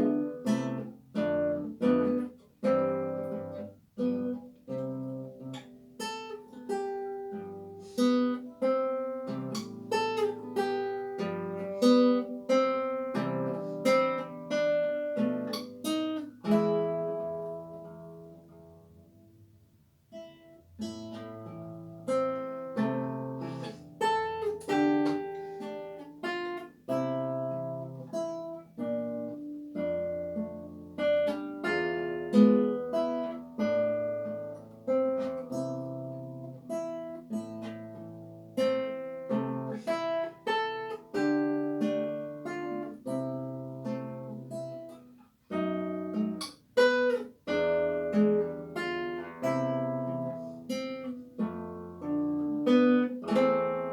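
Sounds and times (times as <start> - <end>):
classical guitar playing: 0.0 - 53.9.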